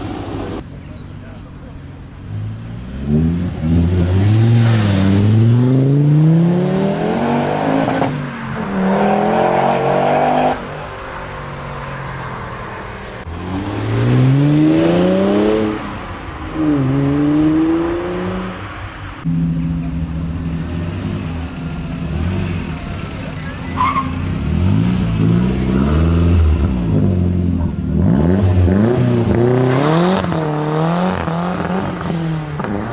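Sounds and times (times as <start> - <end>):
car engines accelerating hard: 0.0 - 19.3, 19.9 - 32.9.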